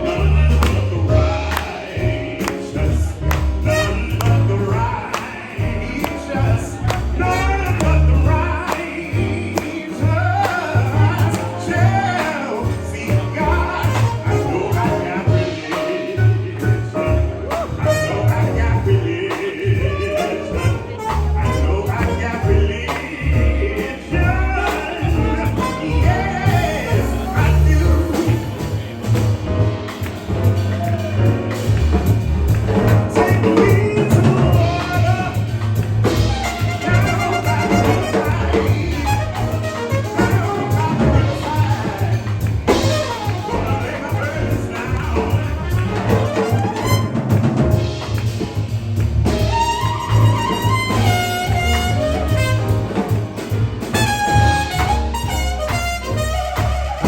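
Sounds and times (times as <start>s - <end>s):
jazz music with brass and bass: 0.0s - 57.0s.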